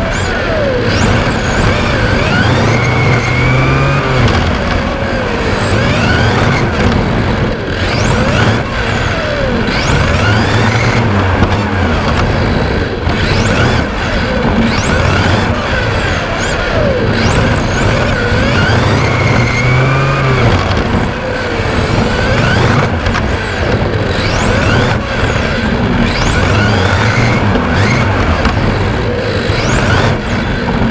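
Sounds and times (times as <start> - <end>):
drivetrain and tyre rushing: 0.0 - 30.9
electric motor whine: 0.0 - 30.9.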